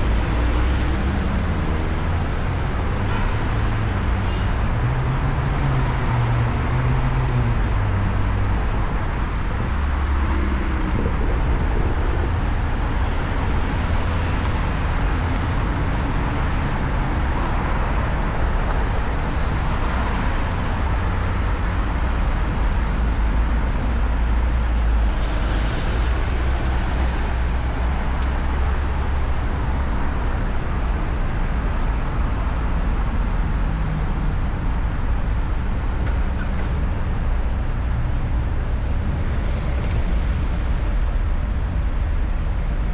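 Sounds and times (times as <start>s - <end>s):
city traffic: 0.0s - 42.9s
wind rumble on microphone: 0.0s - 42.9s.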